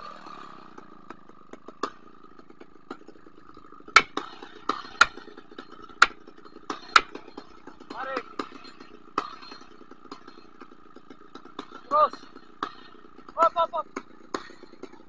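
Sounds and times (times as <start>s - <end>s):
chainsaw idling: 0.0s - 15.0s.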